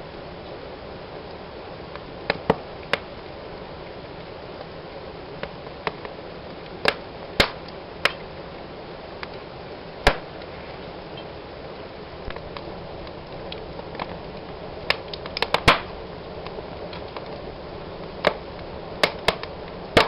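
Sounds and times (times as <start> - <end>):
fire crackling: 0.0 - 20.0.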